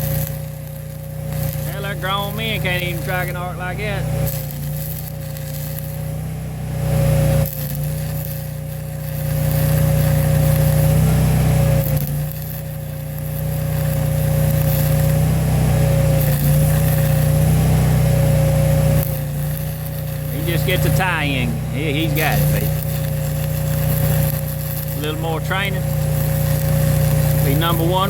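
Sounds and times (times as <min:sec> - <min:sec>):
engine hum with whine: 0:00.0 - 0:28.0
welding arc crackling and hissing: 0:00.0 - 0:28.0.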